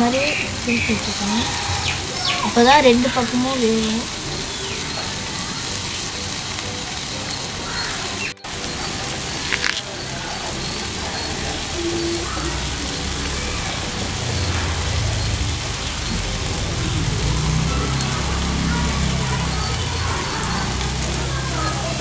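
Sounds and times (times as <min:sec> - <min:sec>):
prawns sizzling in oil: 0:00.0 - 0:22.0.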